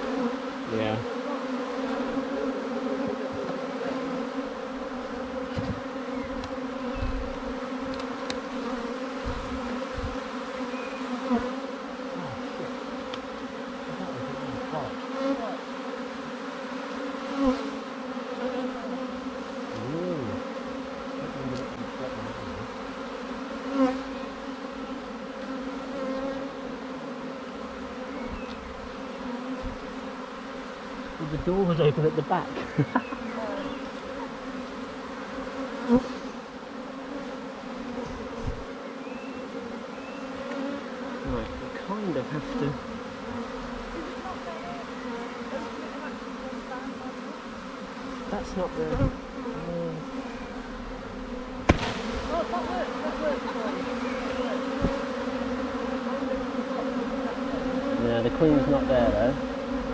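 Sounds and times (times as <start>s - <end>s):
bee swarm humming: 0.0s - 59.9s
single bee buzzing past: 0.0s - 59.9s.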